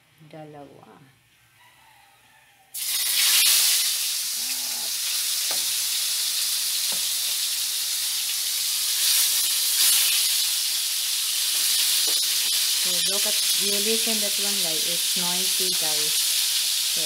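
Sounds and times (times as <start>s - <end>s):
fish sizzling in hot oil: 2.8s - 17.0s.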